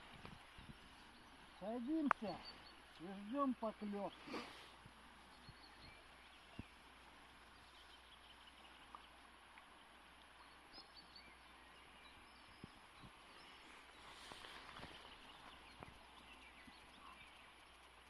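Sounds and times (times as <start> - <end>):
distant bird chirps: 0.0 - 18.0
river flowing: 0.0 - 18.0.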